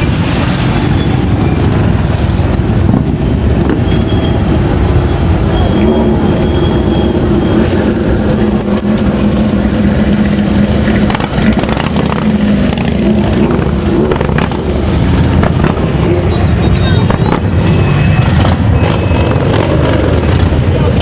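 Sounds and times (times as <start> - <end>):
vehicle engines running: 0.0 - 21.0.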